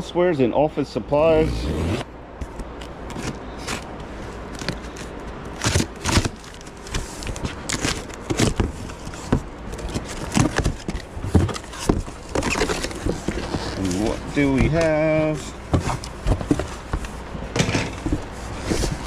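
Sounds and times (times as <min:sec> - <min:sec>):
cardboard flaps rustling: 0:01.3 - 0:19.0.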